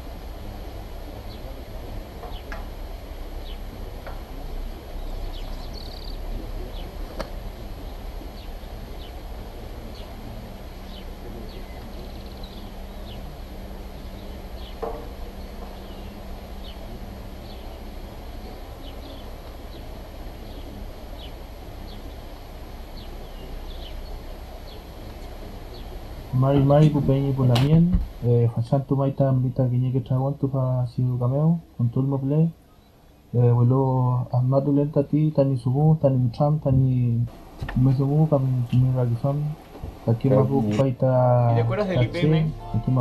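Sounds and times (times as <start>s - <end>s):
low steady hum: 0.0s - 43.0s
steady low rumble: 0.0s - 43.0s
small birds chirping: 0.4s - 43.0s.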